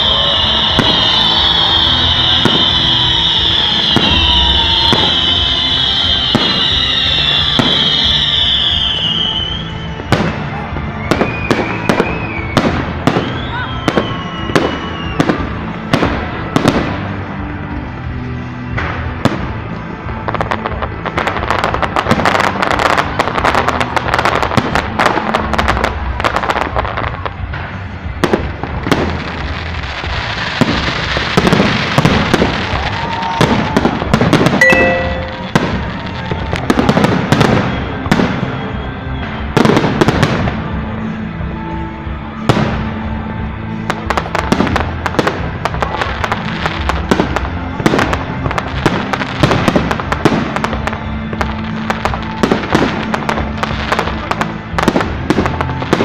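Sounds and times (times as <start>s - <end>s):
fireworks bangs: 0.0s - 56.0s
fireworks crackling: 0.0s - 56.0s
music: 0.0s - 56.0s.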